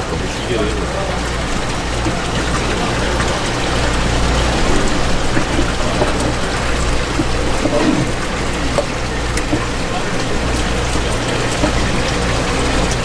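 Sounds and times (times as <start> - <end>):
low steady hum: 0.0 - 13.0
running water rushing: 0.0 - 13.0.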